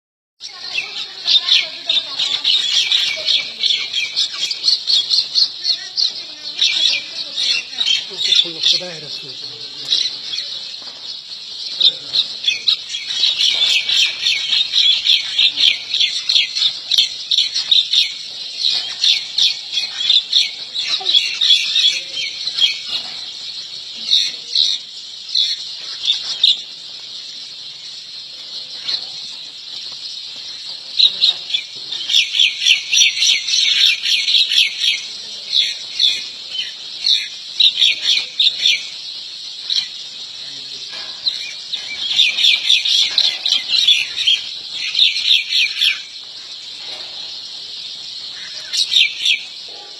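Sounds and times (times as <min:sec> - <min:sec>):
birds chirping: 0:00.4 - 0:49.9.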